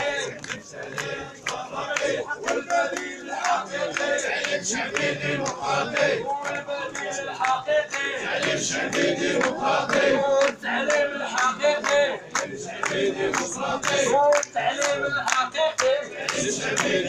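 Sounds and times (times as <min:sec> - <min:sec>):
crowd chanting in unison: 0:00.0 - 0:17.0
hand clapping: 0:00.0 - 0:17.0.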